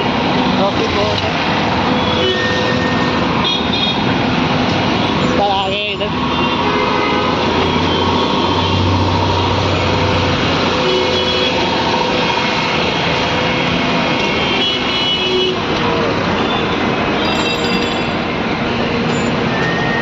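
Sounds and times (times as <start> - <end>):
passing vehicle engines: 0.0 - 14.6, 15.4 - 20.0.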